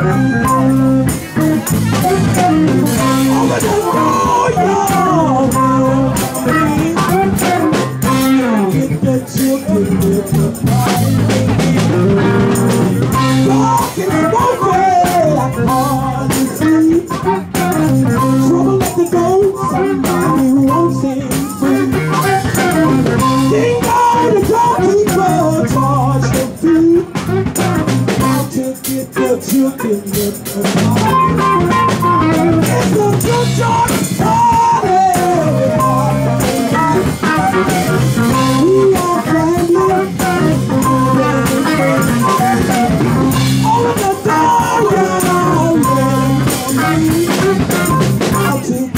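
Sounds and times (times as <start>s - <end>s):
live blues band playing: 0.0s - 48.9s.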